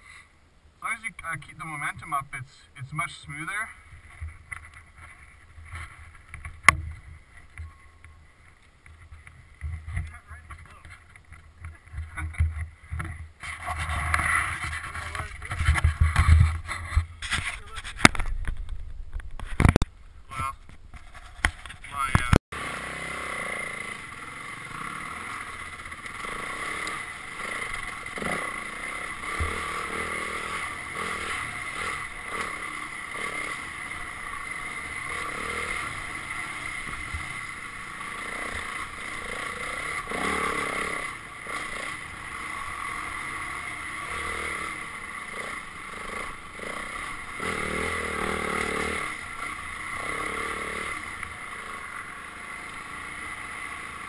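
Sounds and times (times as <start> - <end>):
dirt bike engine running: 3.4 - 54.0.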